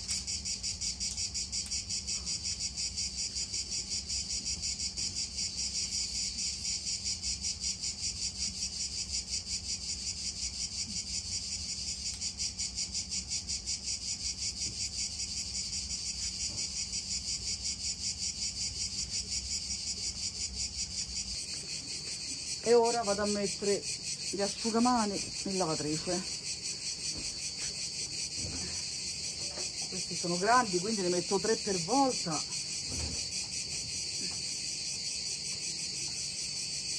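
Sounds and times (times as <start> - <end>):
insects chirping in a pulse: 0.0 - 36.9.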